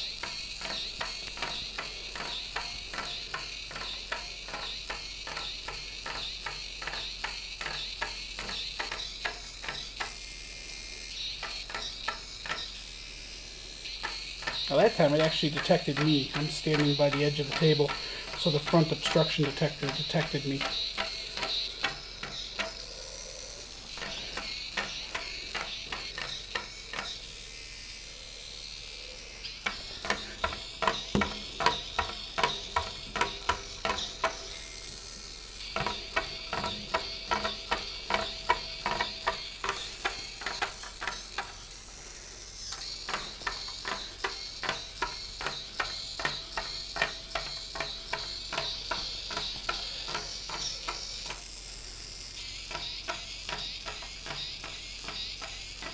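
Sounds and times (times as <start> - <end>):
high motor whine: 0.0 - 55.9
toy robot legs clicking rapidly: 0.0 - 55.9.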